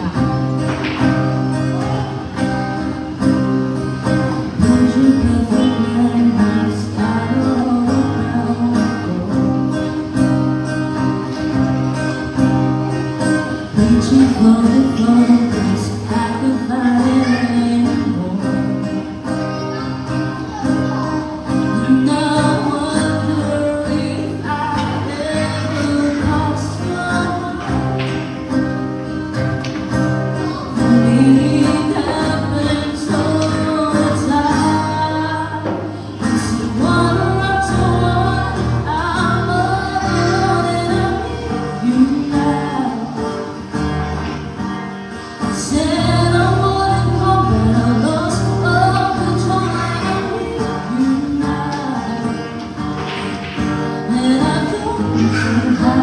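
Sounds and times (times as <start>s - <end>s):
person singing slow song: 0.0s - 56.0s
strummed acoustic guitar: 0.0s - 56.0s.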